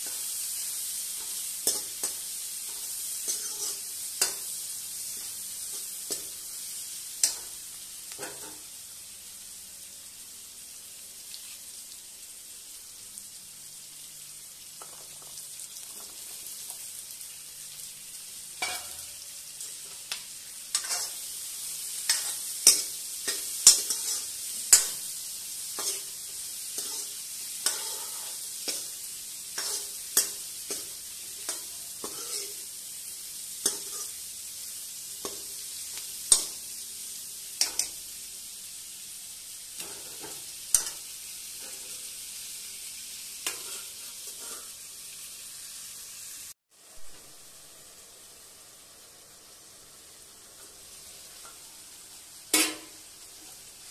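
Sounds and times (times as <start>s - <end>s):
food sizzling in oil: 0.0s - 53.9s.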